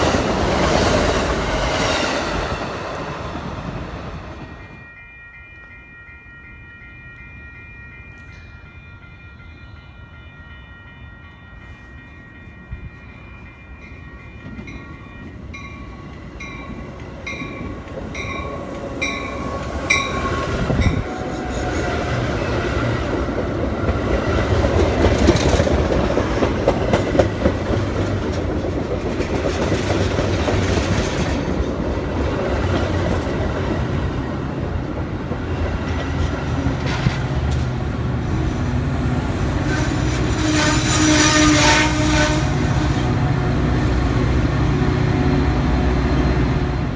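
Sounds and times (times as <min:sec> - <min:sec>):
train passing: 0:00.0 - 0:46.9.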